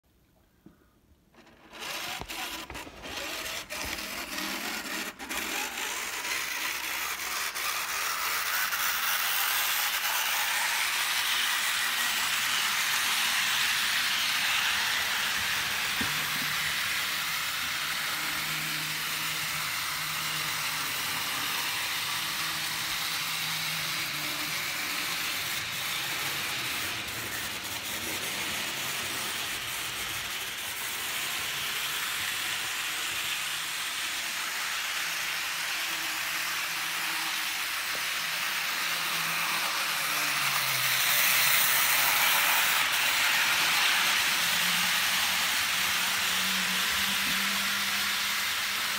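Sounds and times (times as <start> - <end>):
model train motor whirring: 1.3 - 48.9
wheels rolling on track: 1.3 - 48.9.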